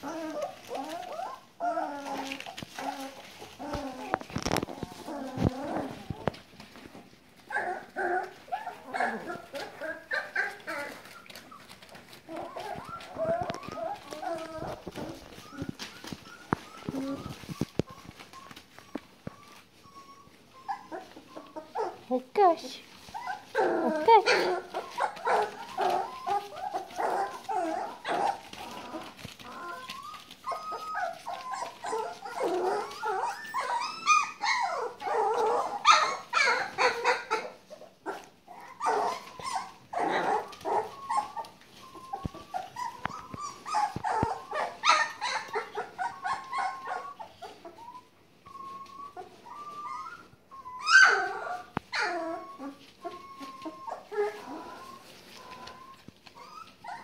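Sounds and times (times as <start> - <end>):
puppies whining and yipping: 0.0 - 57.0.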